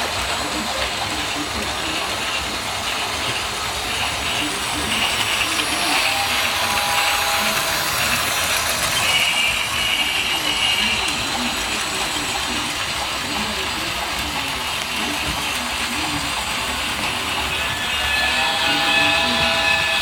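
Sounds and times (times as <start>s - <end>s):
toy train clattering on track: 0.0s - 20.0s.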